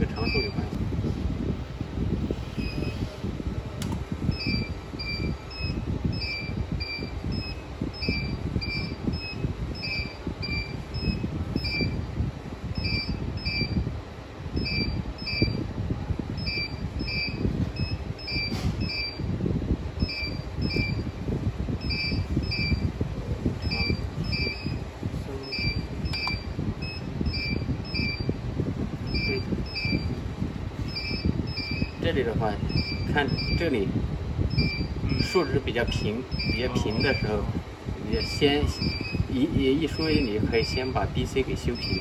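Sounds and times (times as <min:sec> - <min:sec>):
low fan-like rumble: 0:00.0 - 0:42.0.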